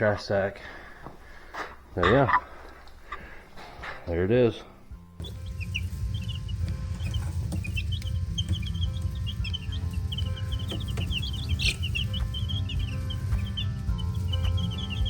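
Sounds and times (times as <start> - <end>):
baby chicks peeping: 1.5 - 15.0.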